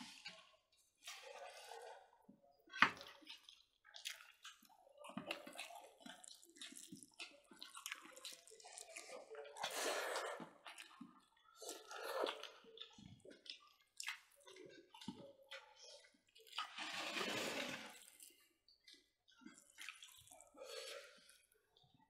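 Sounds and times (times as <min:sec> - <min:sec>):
wet chewing: 0:02.7 - 0:16.8, 0:17.9 - 0:21.9.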